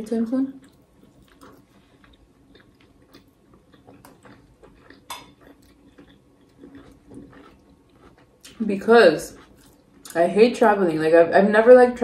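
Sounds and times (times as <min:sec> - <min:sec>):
soft chewing: 0:00.5 - 0:10.4.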